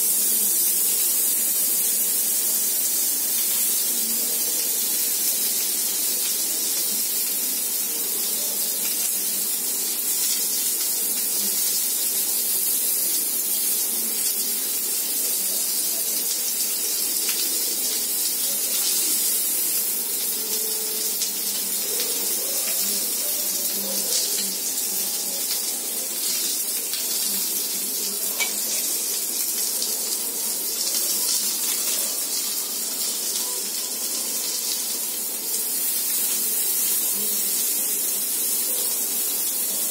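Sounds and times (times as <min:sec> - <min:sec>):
skewers sizzling on hot pan: 0:00.0 - 0:39.9.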